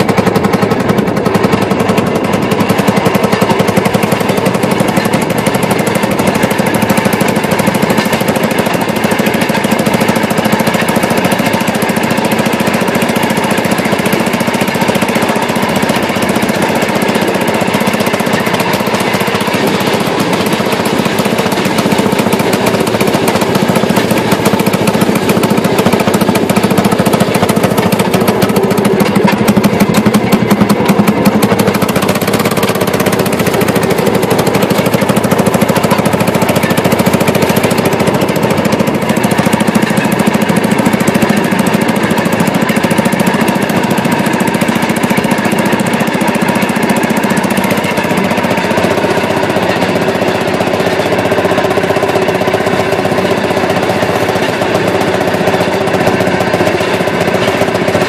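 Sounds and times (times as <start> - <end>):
rail vehicle engine clattering: 0.0 - 58.0.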